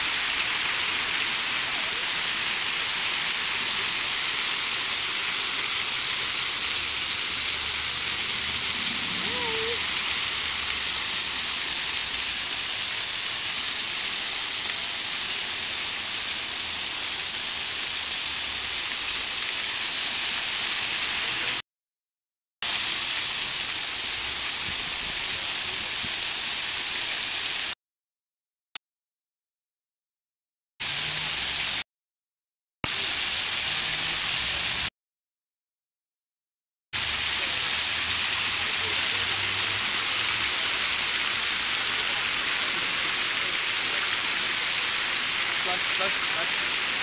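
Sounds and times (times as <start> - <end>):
fountain water jets spraying: 0.0 - 21.6, 22.7 - 27.6, 32.9 - 34.9, 37.0 - 47.0.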